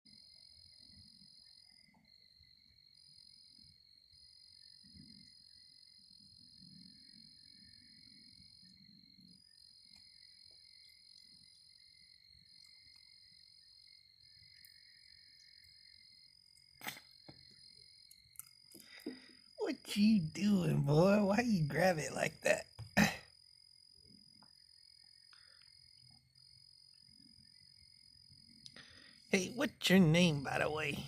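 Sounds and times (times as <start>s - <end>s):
night insects trilling: 0.1s - 31.0s.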